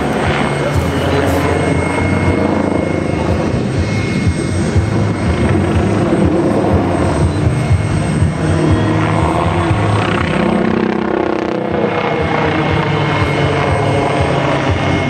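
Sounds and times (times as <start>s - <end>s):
helicopter rotor chopping: 0.0s - 15.0s
high turbine whine: 0.0s - 15.0s.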